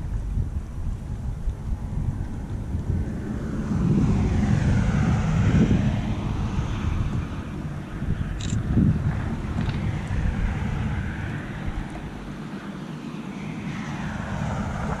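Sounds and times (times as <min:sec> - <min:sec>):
broad rushing sound: 0:00.0 - 0:15.0
wind buffeting microphone: 0:00.0 - 0:15.0.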